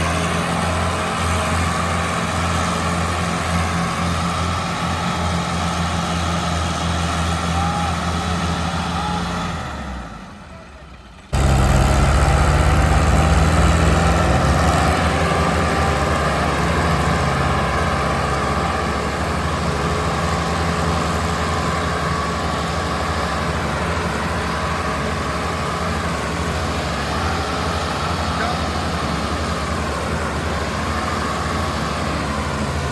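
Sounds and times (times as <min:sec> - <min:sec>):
diesel tractor engine running: 0:00.0 - 0:32.9.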